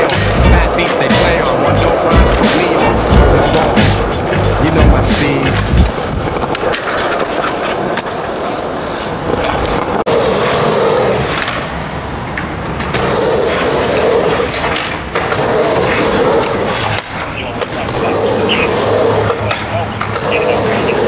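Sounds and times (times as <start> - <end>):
skateboard clacks: 0.0 - 21.0
skateboard wheels rolling on concrete: 0.0 - 21.0.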